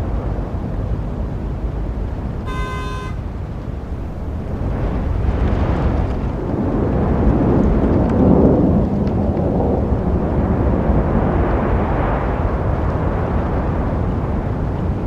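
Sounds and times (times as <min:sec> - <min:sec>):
road traffic rumble: 0:00.6 - 0:13.3.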